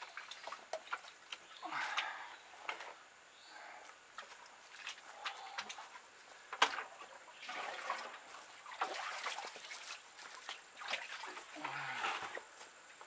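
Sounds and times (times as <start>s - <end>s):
muddy water sloshing in bucket: 0.0s - 3.0s, 4.1s - 12.6s.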